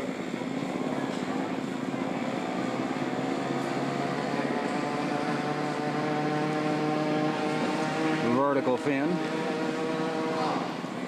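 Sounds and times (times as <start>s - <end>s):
model airplane engine droning: 0.0s - 11.0s.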